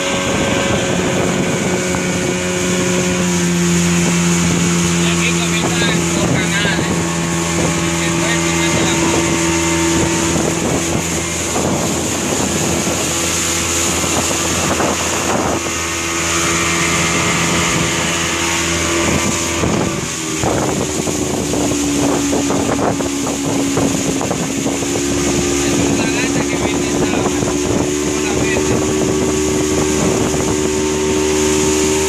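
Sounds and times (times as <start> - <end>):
motorboat engine running: 0.0 - 32.0
water slapping against hull: 0.0 - 32.0
wind on microphone: 0.0 - 32.0.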